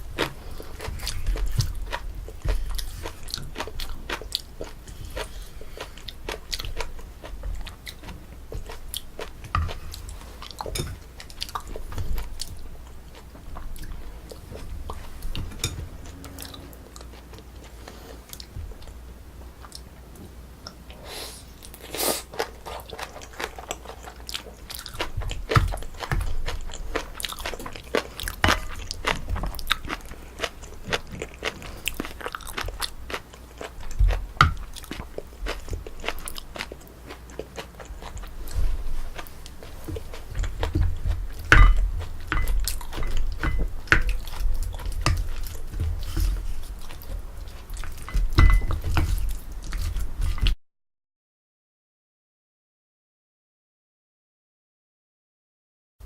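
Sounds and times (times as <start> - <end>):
person chewing food: 0.0 - 50.6.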